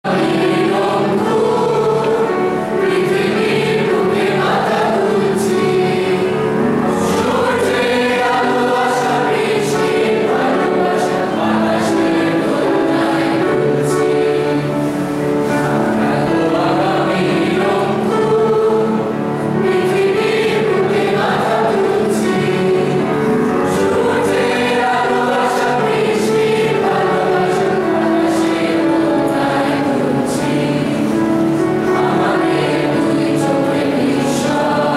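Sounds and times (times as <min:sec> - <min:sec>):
group singing in chorus: 0:00.0 - 0:34.9.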